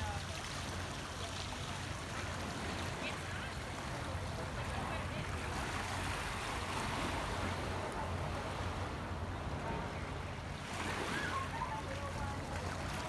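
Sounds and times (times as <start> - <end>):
surf washing over rocky shore: 0.0 - 13.0.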